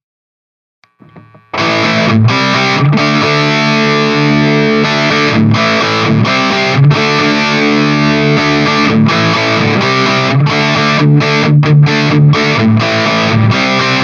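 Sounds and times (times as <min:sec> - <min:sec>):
distorted electric guitar chords: 0:00.8 - 0:14.0.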